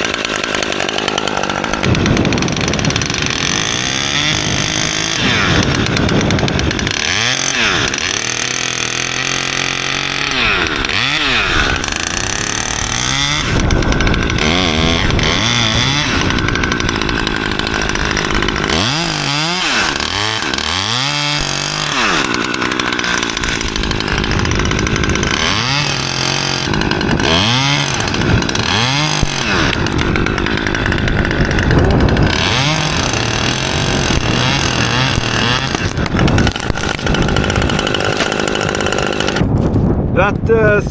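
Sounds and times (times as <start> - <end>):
chainsaw cutting wood: 0.0 - 39.8.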